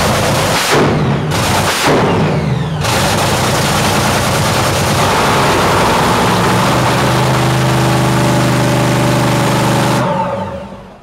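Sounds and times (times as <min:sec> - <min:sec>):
racing car engine running rough: 0:00.0 - 0:11.0.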